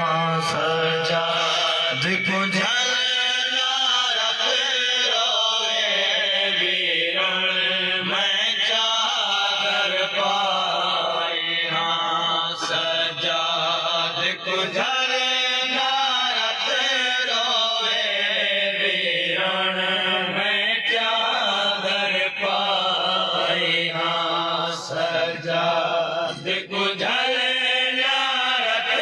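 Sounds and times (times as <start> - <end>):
group of men singing along: 0.0 - 29.0
man chanting into a microphone: 0.0 - 29.0.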